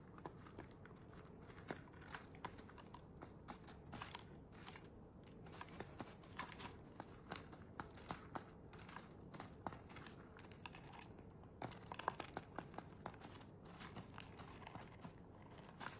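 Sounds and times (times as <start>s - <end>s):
parrots cracking seeds: 0.0s - 15.9s.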